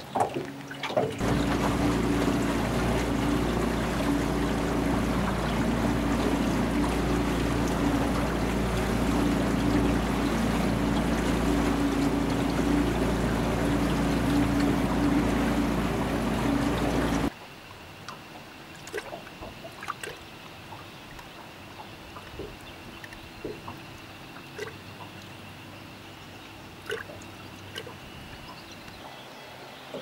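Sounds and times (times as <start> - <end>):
motorboat engine running: 0.0 - 30.0
water rushing along hull: 0.0 - 30.0.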